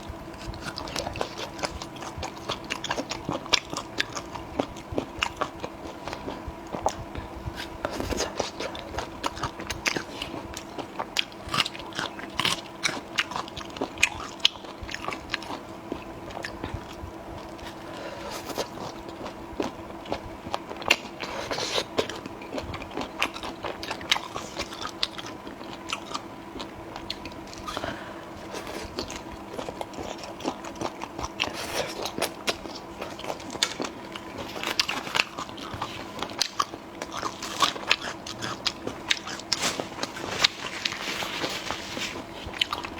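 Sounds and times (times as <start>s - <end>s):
faint steady hum: 0.0s - 42.9s
person chewing crunchy food: 0.0s - 42.9s.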